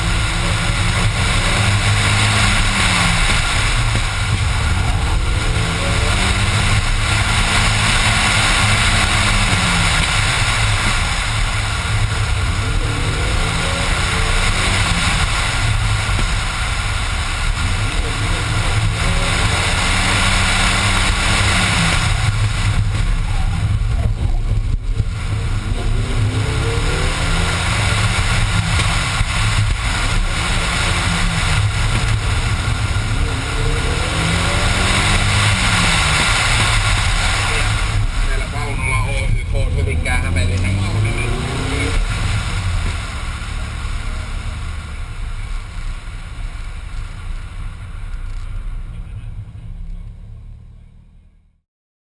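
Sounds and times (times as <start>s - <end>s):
rally car engine revving: 0.0s - 51.6s
wind and road noise: 0.0s - 51.6s.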